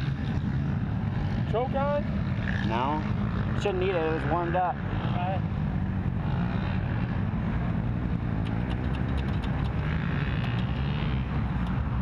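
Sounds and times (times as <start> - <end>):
atv engines droning: 0.0 - 12.0.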